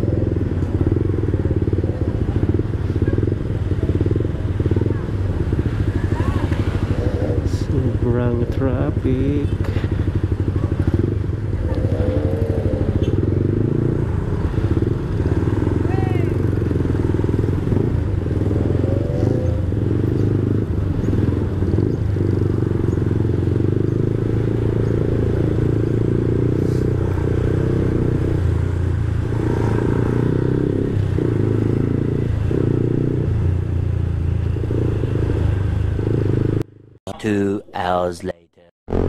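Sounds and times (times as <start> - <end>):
motorcycle engine rumbling: 0.0 - 39.0.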